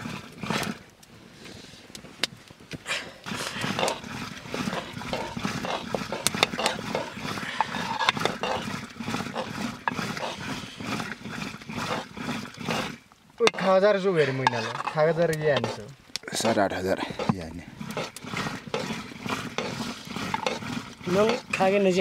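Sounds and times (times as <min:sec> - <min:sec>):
pot boiling: 0:00.0 - 0:22.0
wood fire crackling: 0:00.0 - 0:22.0.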